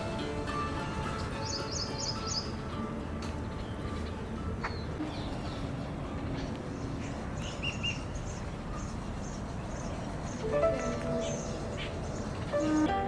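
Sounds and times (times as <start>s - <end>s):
steady background hiss: 0.0s - 13.0s
small birds chirping: 1.2s - 2.7s, 3.3s - 13.0s.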